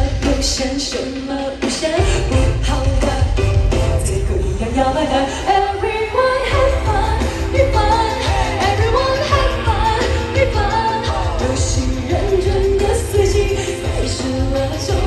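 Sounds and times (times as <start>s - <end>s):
live pop song with heavy bass: 0.0s - 15.0s.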